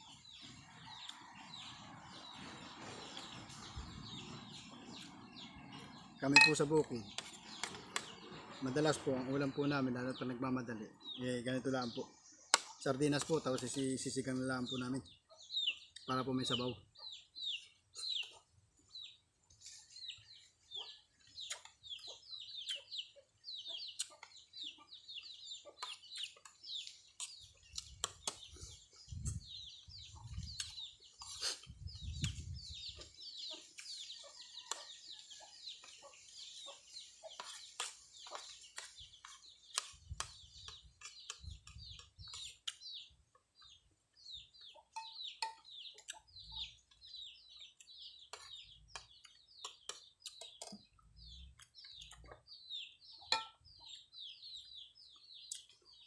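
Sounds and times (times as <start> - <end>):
chicks peeping: 0.0 - 8.4, 14.7 - 56.0.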